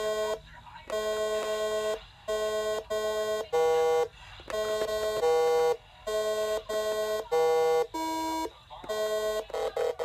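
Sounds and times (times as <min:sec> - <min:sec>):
electronic game beeps: 0:00.0 - 0:10.0.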